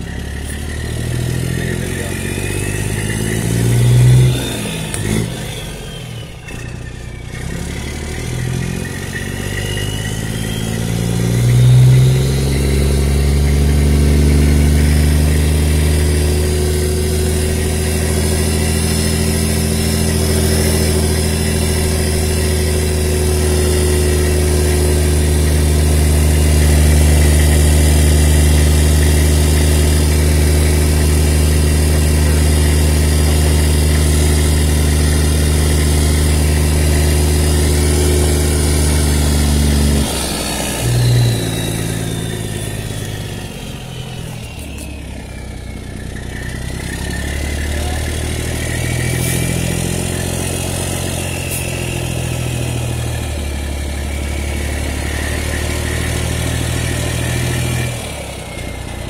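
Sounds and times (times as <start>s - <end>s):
diesel truck engine revving: 0.0s - 59.0s
turbo whine: 0.0s - 59.0s.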